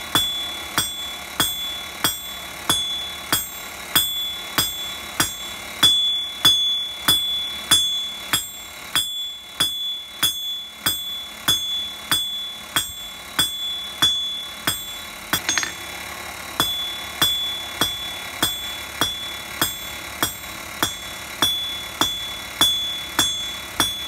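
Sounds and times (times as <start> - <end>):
hammer blows on hot steel: 0.0 - 15.9, 16.6 - 24.0
anvil ringing: 0.0 - 24.0.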